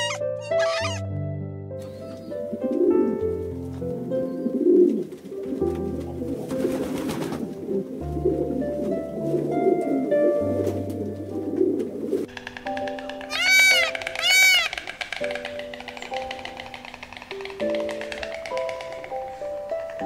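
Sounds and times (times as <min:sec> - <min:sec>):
background music: 0:00.0 - 0:20.0
pigeons cooing: 0:01.9 - 0:20.0.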